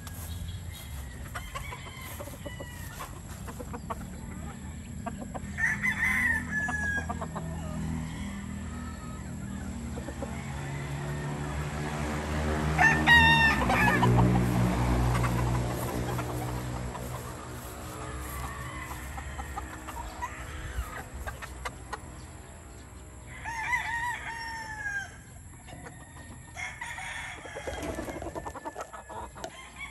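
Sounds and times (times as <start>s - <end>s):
rooster crowing: 0.0s - 21.3s, 23.2s - 29.9s.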